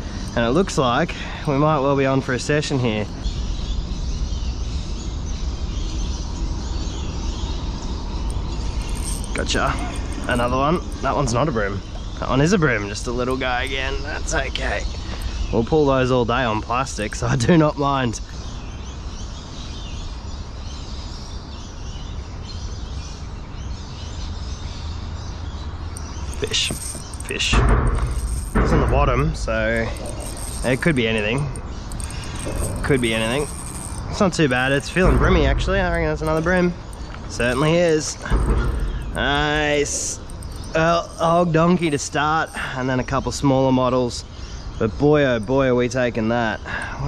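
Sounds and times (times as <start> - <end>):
faint bird chirping: 0.0 - 47.0.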